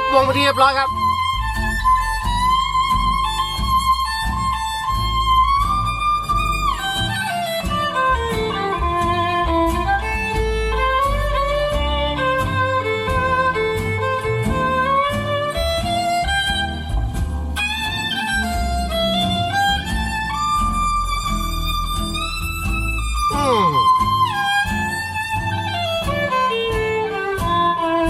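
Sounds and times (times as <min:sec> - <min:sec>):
plucked strings: 0:00.0 - 0:28.0
steady bass line: 0:00.0 - 0:28.0
violin melody with slide: 0:00.0 - 0:28.0.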